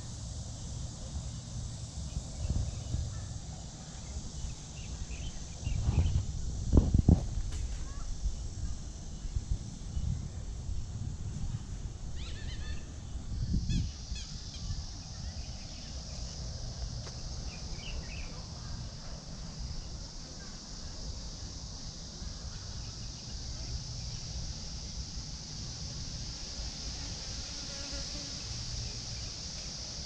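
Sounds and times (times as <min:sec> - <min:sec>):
cicadas droning: 0:00.0 - 0:30.0.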